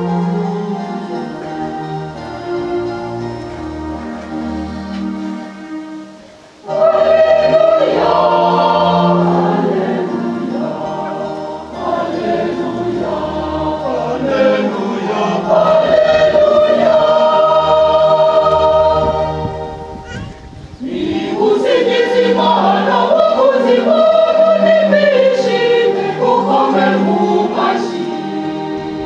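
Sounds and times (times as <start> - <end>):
choir singing a gospel hymn: 0.0 - 20.1, 20.7 - 29.0
soft background music: 0.0 - 29.0.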